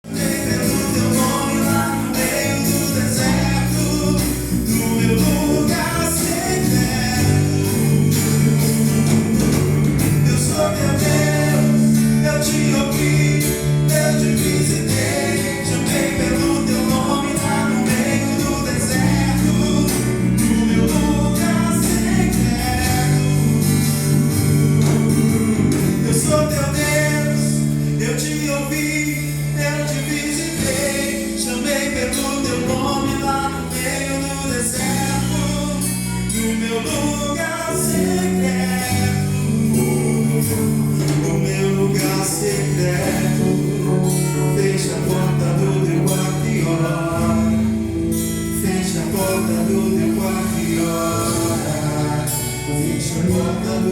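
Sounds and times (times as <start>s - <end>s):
instrumental backing: 0.0s - 53.9s
person singing worship song: 0.0s - 53.9s.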